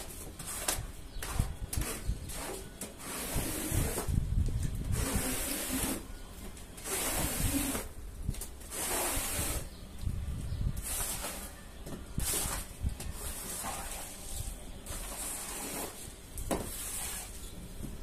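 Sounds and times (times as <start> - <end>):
squeegee scraping wet rug: 0.0 - 6.2, 6.8 - 7.9, 8.6 - 9.8, 10.8 - 11.6, 12.2 - 17.6.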